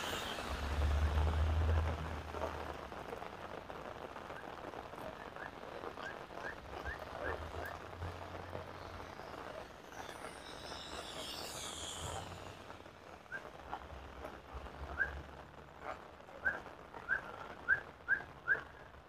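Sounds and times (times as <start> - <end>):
heavy rain on a road: 0.0 - 19.0.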